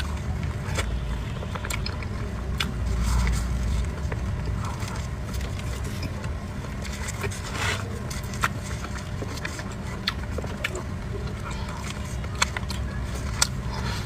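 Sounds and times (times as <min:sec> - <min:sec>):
soft chewing: 0:00.0 - 0:14.0
steady low hum: 0:00.0 - 0:14.0.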